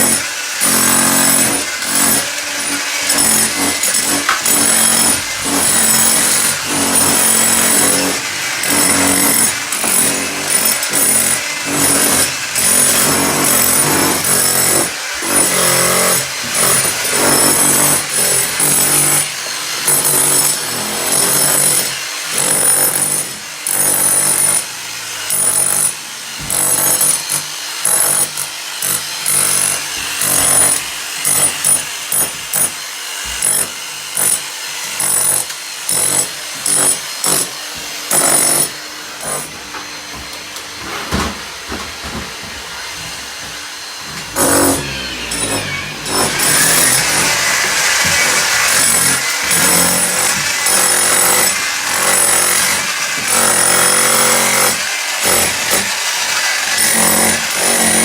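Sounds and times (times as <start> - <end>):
power tools running in bursts: 0.0 - 40.7, 43.7 - 58.0.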